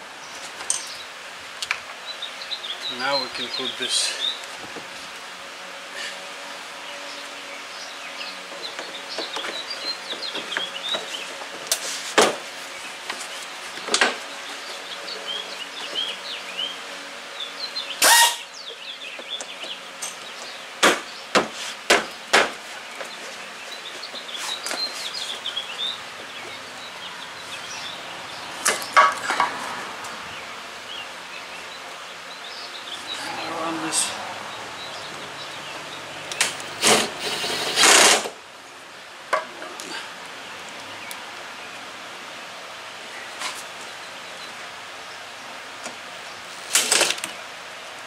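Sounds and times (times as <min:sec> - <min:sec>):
birds chirping: 0:00.2 - 0:05.2, 0:05.8 - 0:11.7, 0:12.5 - 0:37.8, 0:39.3 - 0:47.7.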